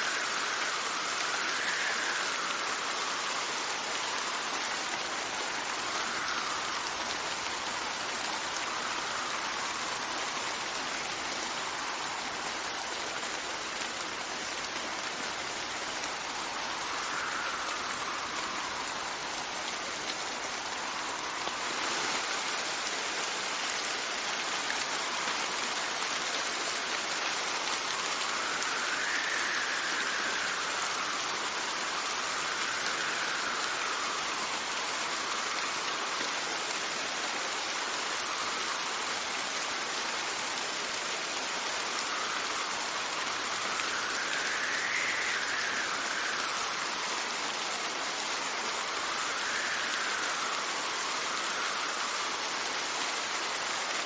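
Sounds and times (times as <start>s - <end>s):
wind gusting with whistle: 0.0s - 23.7s, 27.8s - 36.2s, 41.2s - 54.0s
steady rain falling: 0.0s - 54.0s.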